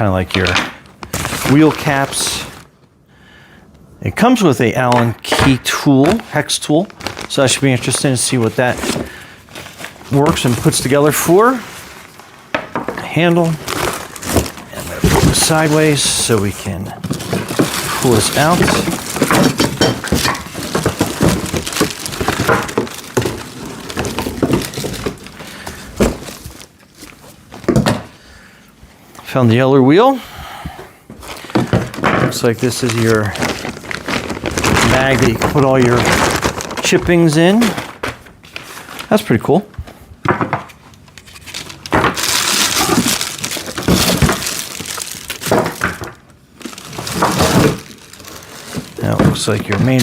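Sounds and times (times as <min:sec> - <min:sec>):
packing crinkling and scraping: 0:00.0 - 0:02.7, 0:04.2 - 0:28.2, 0:31.1 - 0:39.6, 0:40.6 - 0:50.0.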